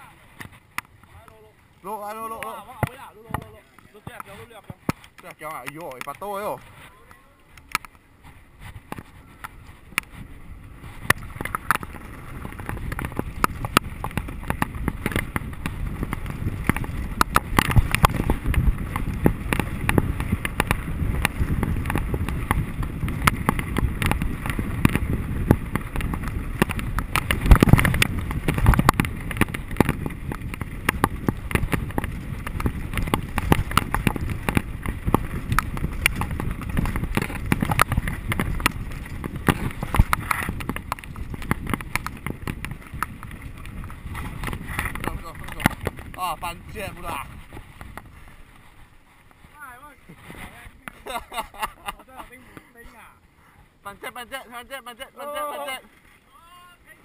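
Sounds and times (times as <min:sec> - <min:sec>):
bike clicking and rattling: 0:00.0 - 0:53.1
bike tyres rumbling over dirt: 0:00.0 - 0:57.0
wind buffeting microphone: 0:00.0 - 0:57.0.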